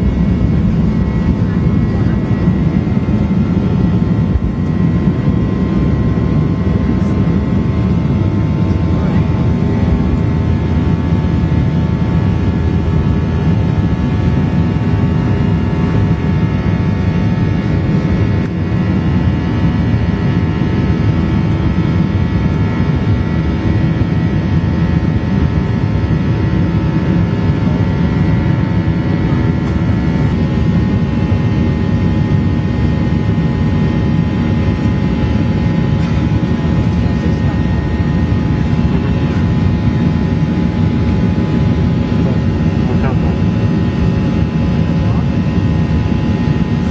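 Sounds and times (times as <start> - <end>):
airliner cabin roar: 0.0 - 46.9
steady tonal hum: 0.0 - 46.9.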